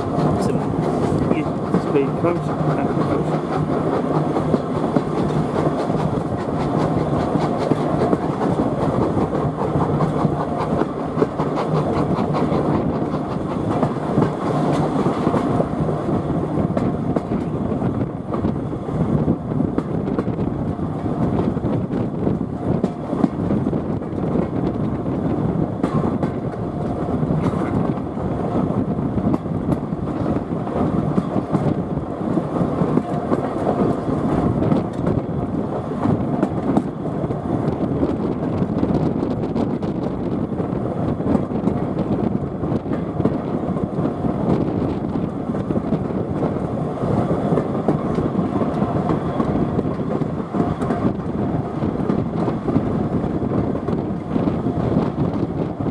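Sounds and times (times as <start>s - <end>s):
train wheels clattering on rails: 0.0s - 55.9s.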